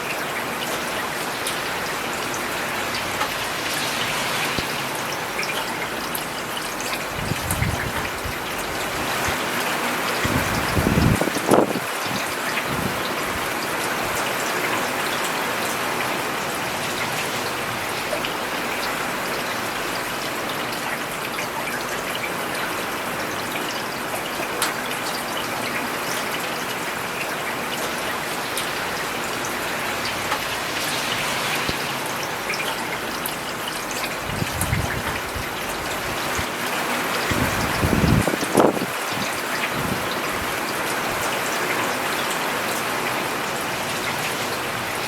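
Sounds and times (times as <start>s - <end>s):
rain on paved road: 0.0s - 45.0s.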